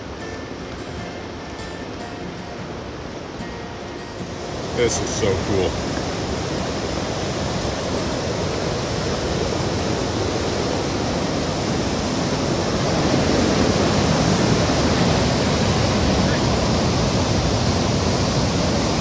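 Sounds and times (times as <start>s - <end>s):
whitewater rushing over rocks: 0.0s - 19.0s.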